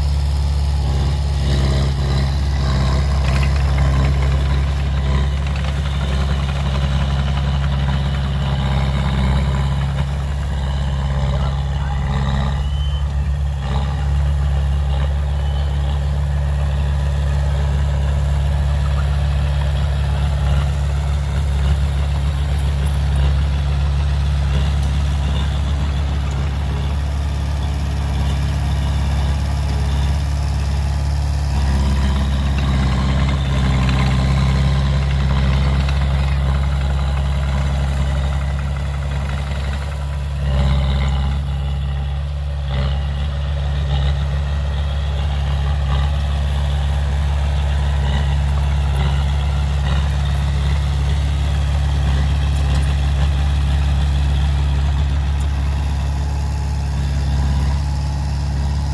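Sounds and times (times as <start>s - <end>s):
heavy diesel machinery engine drone: 0.0s - 58.9s.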